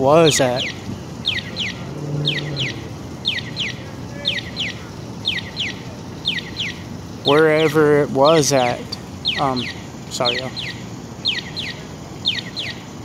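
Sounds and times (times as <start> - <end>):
small birds chirping: 0.0 - 13.0
street noise hum: 0.0 - 13.0.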